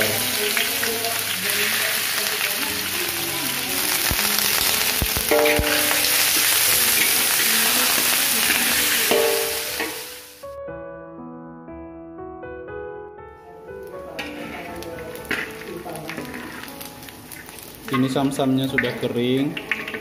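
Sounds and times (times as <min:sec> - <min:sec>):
pork sizzling in hot oil: 0:00.0 - 0:10.5, 0:13.6 - 0:20.0.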